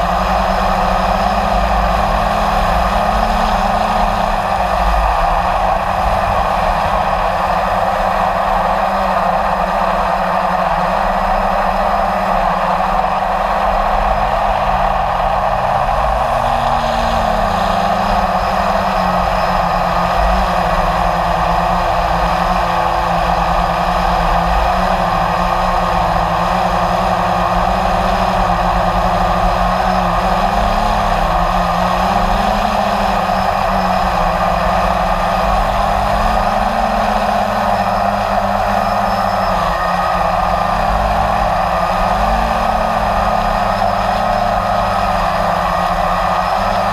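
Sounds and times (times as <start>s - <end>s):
quadcopter propellers whirring: 0.0s - 46.9s.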